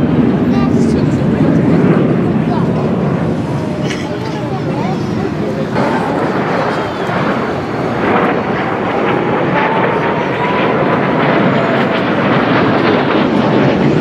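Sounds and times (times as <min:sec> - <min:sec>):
jet engine roar: 0:00.0 - 0:14.0
jet whine falling in pitch: 0:00.0 - 0:14.0.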